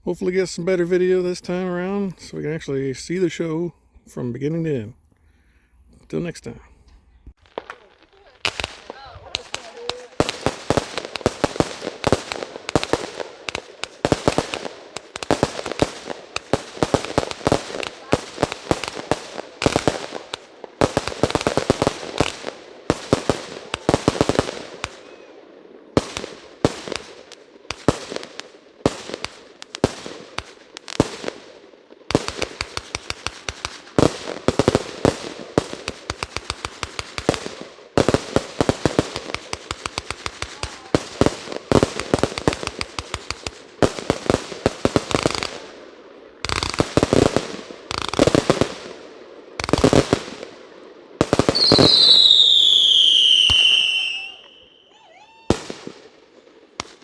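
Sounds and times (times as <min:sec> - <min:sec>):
fireworks banging: 0:07.3 - 0:57.0.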